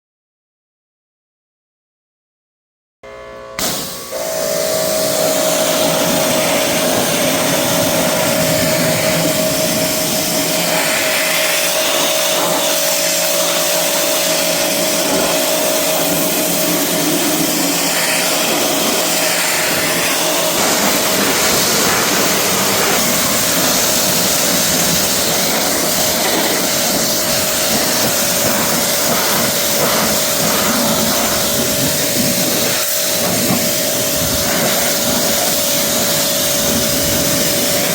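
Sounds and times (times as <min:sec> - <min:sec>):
pressure washer whine: 0:03.0 - 0:37.9
water spray hissing: 0:03.6 - 0:37.9.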